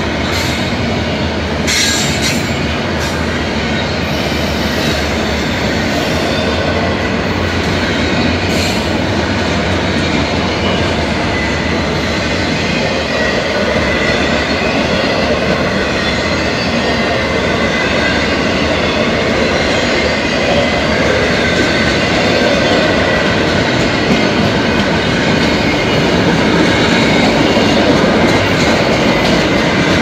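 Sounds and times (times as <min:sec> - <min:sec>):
freight train wheels rumbling on rail: 0:00.0 - 0:30.0.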